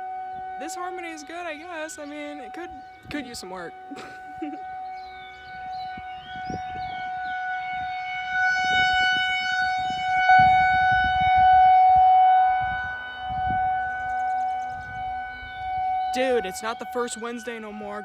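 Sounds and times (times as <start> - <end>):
warning sirens: 0.0 - 18.0.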